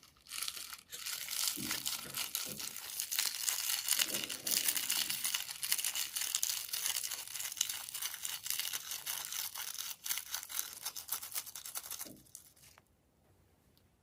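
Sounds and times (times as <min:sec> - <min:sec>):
crinkling handling noise: 0:00.0 - 0:12.9.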